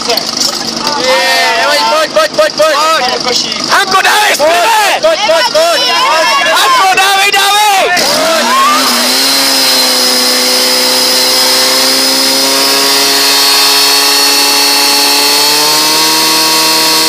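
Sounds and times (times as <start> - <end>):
pump engine at high revs: 0.0 - 17.0.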